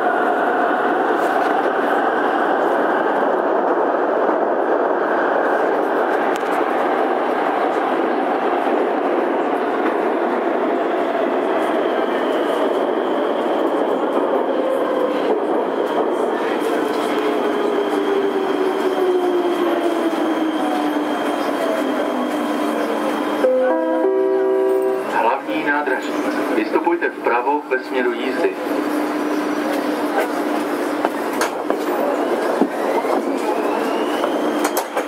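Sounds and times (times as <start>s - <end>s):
metro train rumbling: 0.0s - 35.0s.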